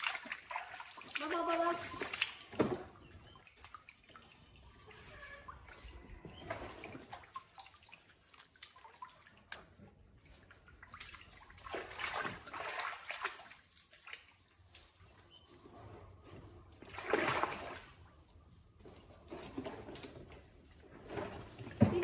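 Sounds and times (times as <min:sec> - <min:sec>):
water splashing in a pool: 0:00.0 - 0:22.0.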